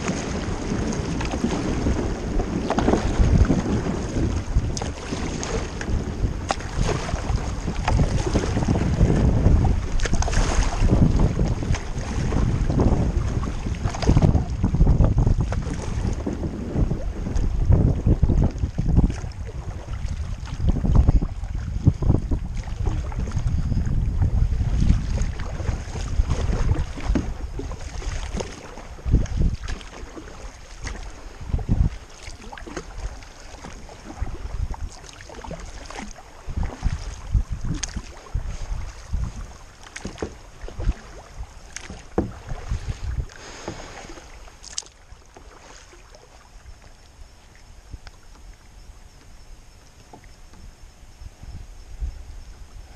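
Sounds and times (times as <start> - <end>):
wind buffeting microphone: 0.0 - 44.5, 45.6 - 52.9
paddle splashing in water: 0.0 - 51.4.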